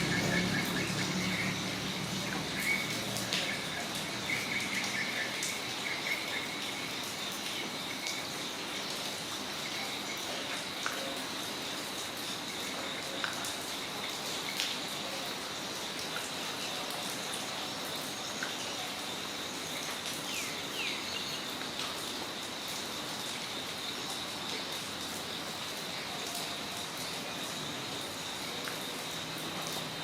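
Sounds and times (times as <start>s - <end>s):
insect drone: 0.0s - 30.0s
steady rain falling: 0.0s - 30.0s.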